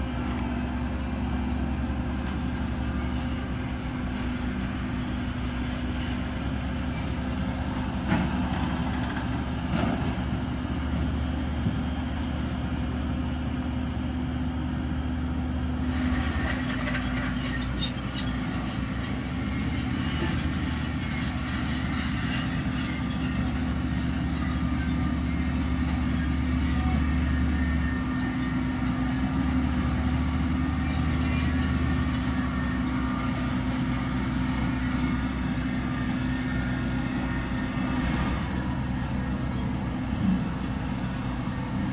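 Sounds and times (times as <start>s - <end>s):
diesel engine running: 0.0s - 41.9s
crawler tracks clanking and squealing: 2.2s - 12.0s, 15.8s - 41.9s.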